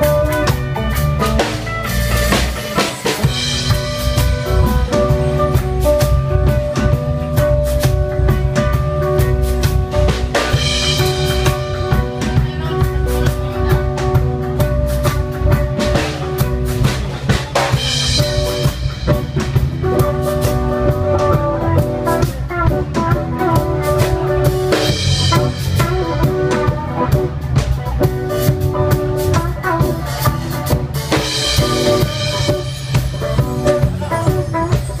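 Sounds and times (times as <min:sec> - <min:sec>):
live band playing instrumental: 0:00.0 - 0:35.0.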